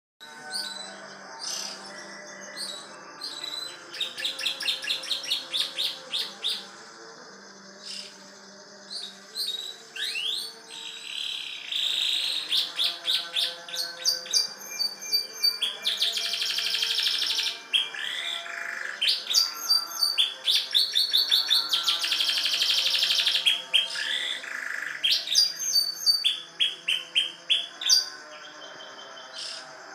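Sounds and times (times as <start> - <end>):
canary singing with trills: 0.2 - 29.9.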